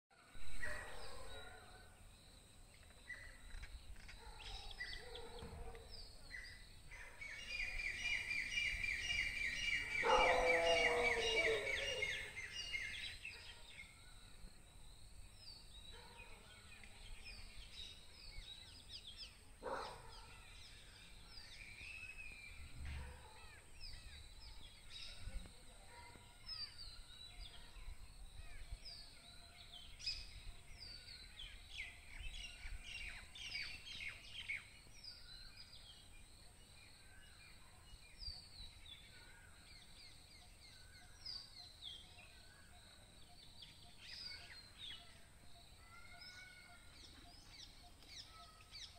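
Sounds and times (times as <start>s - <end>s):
faint birds chirping: 0.1s - 48.9s
low outdoor background noise: 0.1s - 48.9s.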